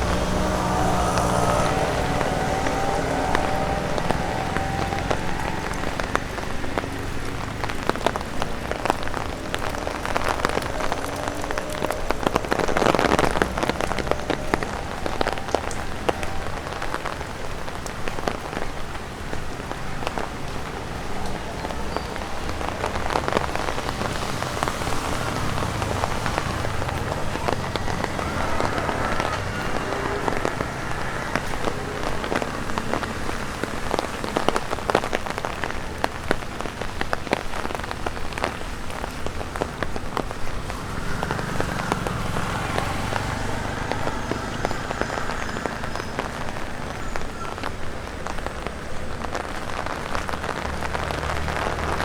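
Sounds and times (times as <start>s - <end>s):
raindrops tapping on umbrella: 0.0s - 52.0s.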